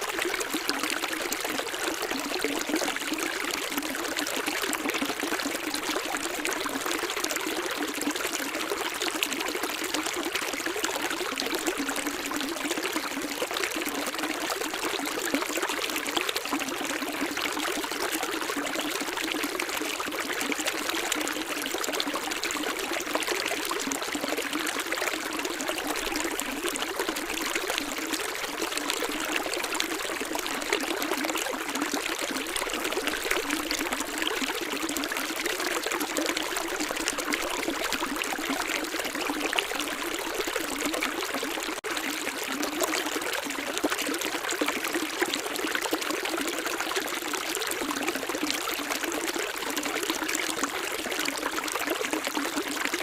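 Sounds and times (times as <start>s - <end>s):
stream trickling and splashing: 0.0s - 53.0s.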